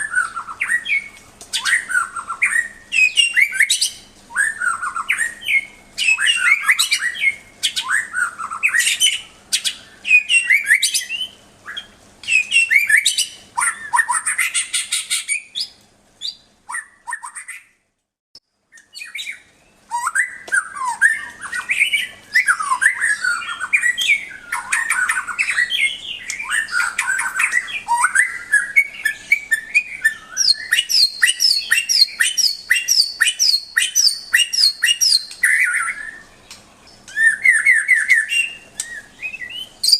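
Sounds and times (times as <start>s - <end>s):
songbird singing whistled phrases: 0.0s - 17.8s, 18.7s - 39.9s.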